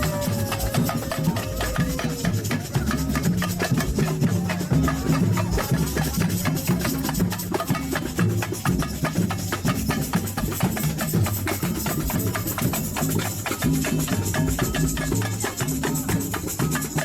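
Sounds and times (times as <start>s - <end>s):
samba music with percussion: 0.0s - 17.0s.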